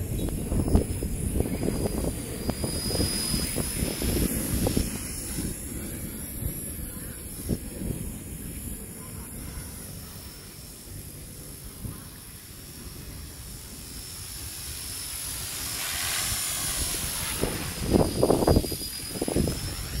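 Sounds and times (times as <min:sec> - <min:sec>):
rc helicopter rotor whine: 0:00.0 - 0:20.0
wind buffeting microphone: 0:00.0 - 0:20.0.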